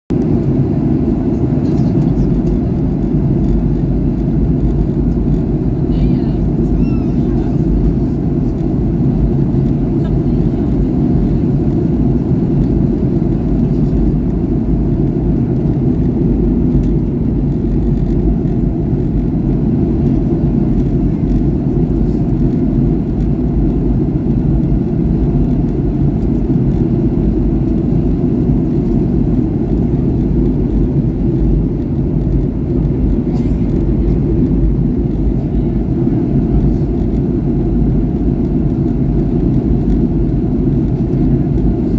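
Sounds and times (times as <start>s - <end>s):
airplane cabin rumble: 0.1s - 41.9s.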